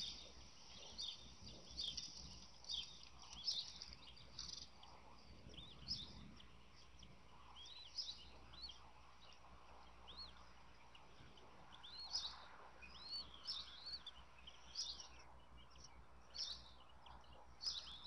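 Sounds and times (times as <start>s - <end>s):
high chirping bird calls: 0.0s - 18.0s
low steady hum: 0.0s - 18.0s.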